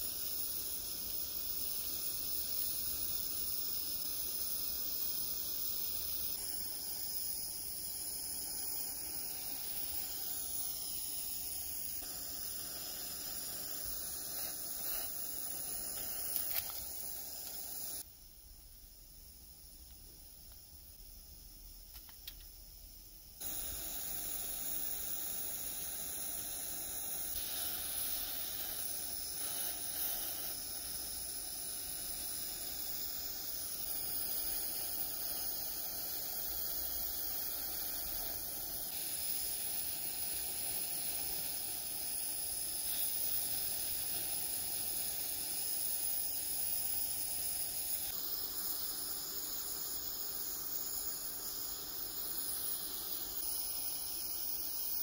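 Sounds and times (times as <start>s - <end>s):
gas torch flame hissing: 0.0s - 55.0s.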